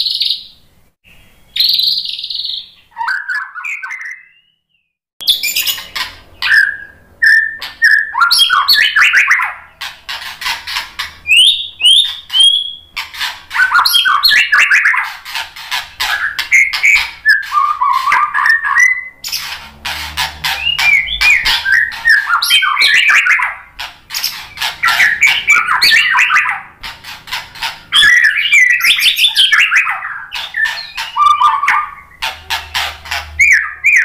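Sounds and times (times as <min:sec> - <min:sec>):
songbird singing: 0:00.0 - 0:34.0.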